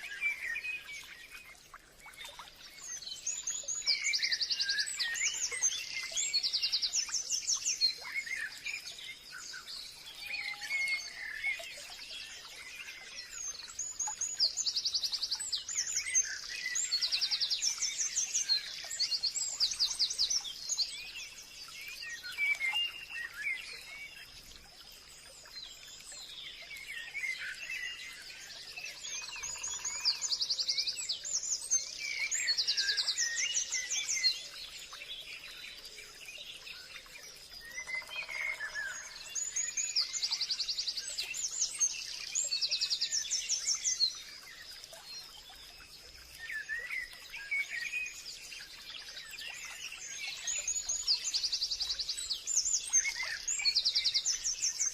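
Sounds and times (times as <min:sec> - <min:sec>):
songbirds singing and chirping: 0:00.0 - 0:54.9.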